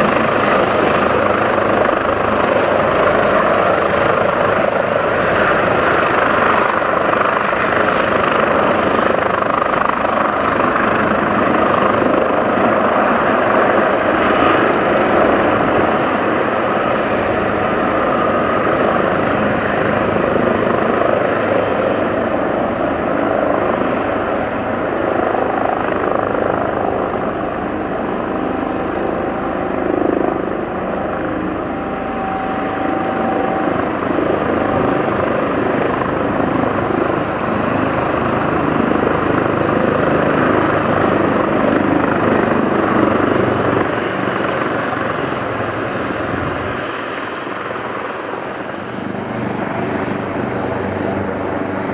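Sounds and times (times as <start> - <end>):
helicopter engines and rotors: 0.0 - 51.9.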